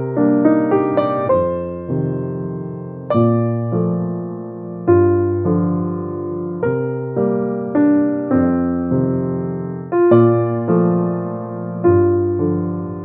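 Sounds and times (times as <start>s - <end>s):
electric piano slow chords: 0.0s - 13.0s.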